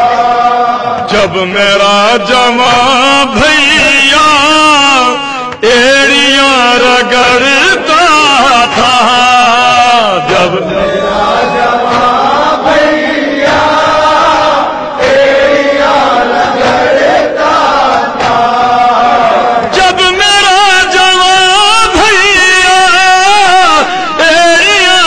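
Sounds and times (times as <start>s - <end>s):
chorus of voices chanting a lament: 0.0s - 25.0s.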